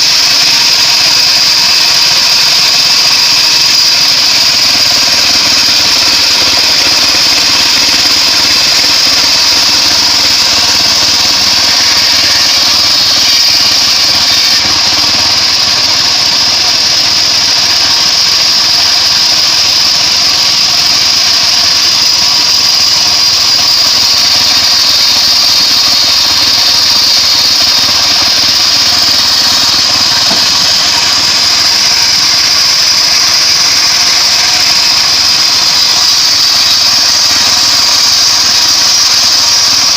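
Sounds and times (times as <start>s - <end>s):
bandsaw sawing wood: 0.0s - 39.9s.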